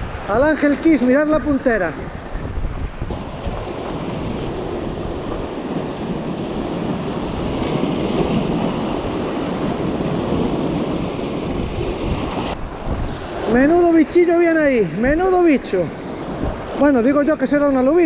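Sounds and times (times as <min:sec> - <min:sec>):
sea surf washing against rocks: 0:00.0 - 0:18.0
wind buffeting microphone: 0:00.0 - 0:18.0.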